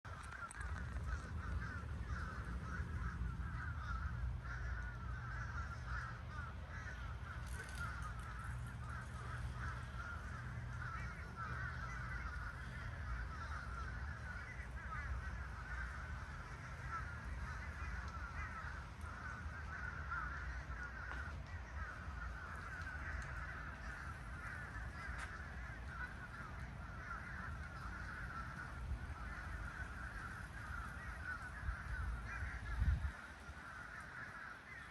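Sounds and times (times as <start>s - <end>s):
flock of birds calling: 0.1s - 34.9s.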